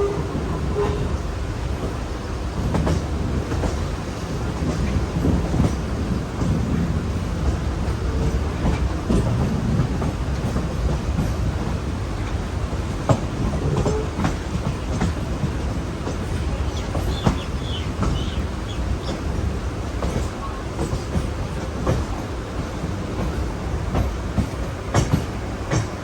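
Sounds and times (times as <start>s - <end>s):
electric train rumbling: 0.0s - 26.0s
wheels clacking over rails: 2.6s - 26.0s.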